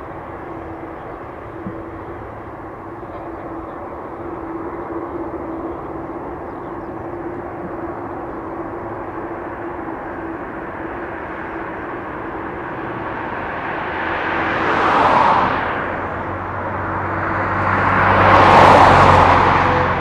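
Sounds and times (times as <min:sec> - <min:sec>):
jet engine rumble: 0:00.0 - 0:20.0
steady whining tone: 0:00.0 - 0:20.0.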